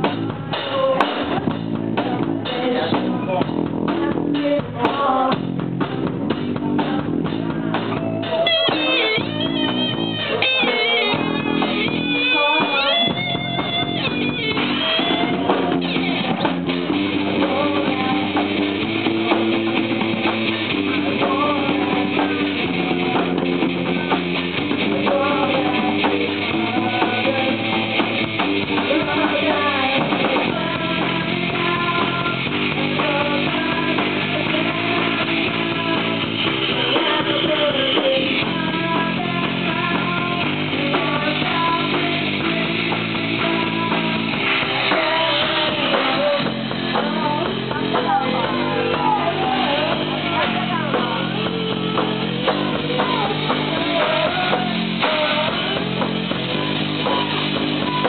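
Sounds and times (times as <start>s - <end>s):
drum kit with cymbals: 0.0s - 58.0s
electric guitar: 0.0s - 58.0s.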